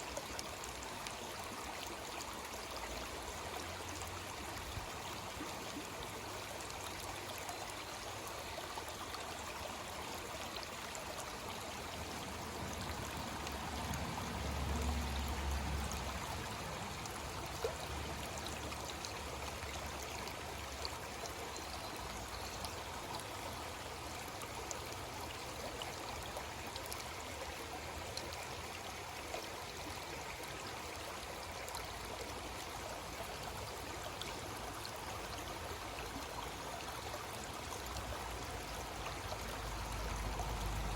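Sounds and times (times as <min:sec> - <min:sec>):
creek water flowing: 0:00.0 - 0:40.9.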